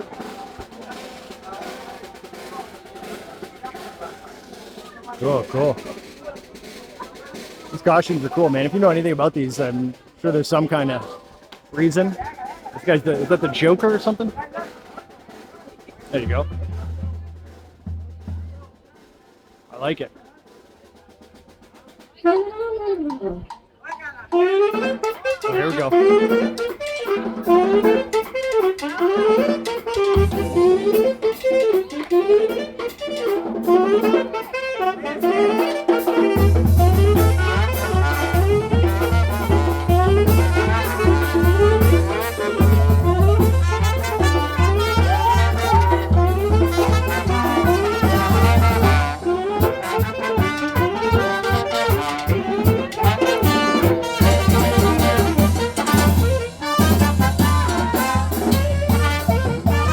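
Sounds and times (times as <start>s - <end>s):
street brass band playing: 0.0s - 59.9s.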